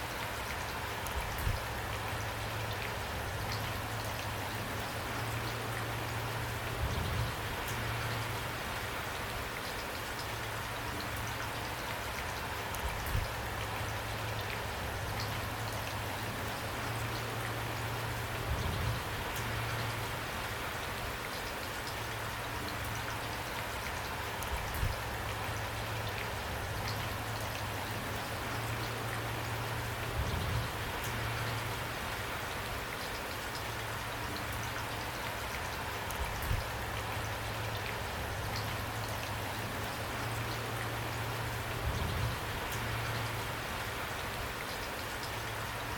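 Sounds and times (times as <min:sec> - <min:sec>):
steady rainfall: 0:00.0 - 0:45.9.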